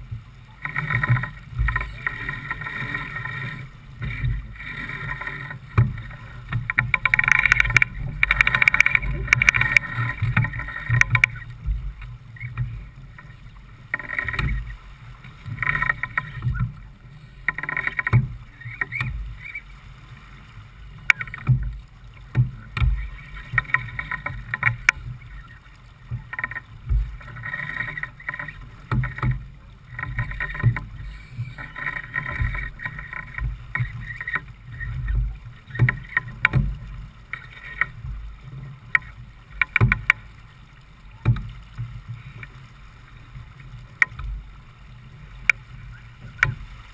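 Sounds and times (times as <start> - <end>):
water splashing along a hull: 0.0 - 46.9.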